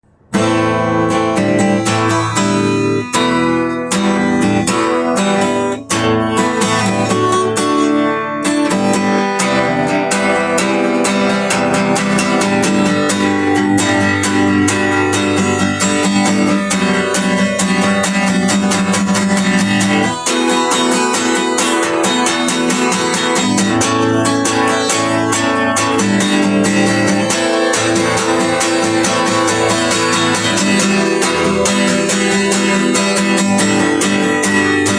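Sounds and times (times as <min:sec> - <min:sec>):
strummed acoustic guitar music: 0:00.0 - 0:34.9.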